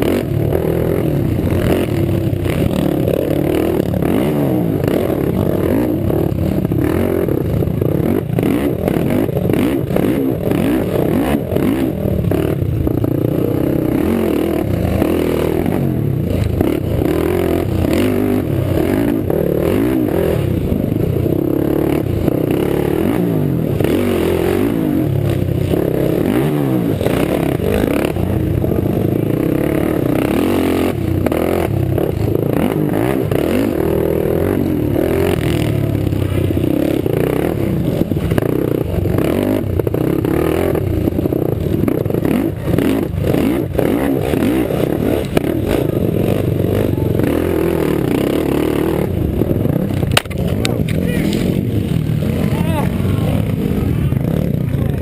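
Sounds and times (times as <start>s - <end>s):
other quads racing: 0.0s - 55.0s
quad engine revving: 0.0s - 55.0s.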